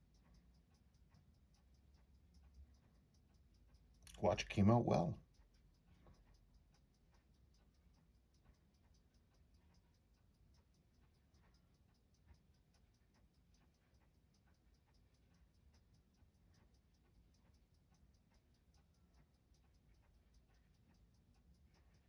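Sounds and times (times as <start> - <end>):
watch ticking: 0.0 - 22.0.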